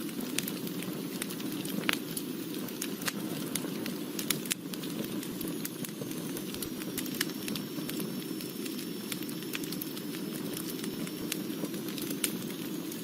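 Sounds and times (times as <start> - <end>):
fire crackling and popping: 0.0 - 13.0
wood fire rushing flames: 0.0 - 13.0.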